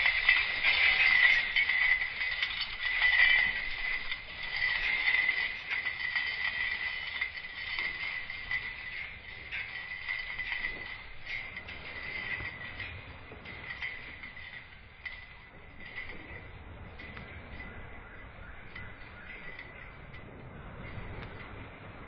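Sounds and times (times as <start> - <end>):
fence wires rattling and clinking: 0.0 - 21.8.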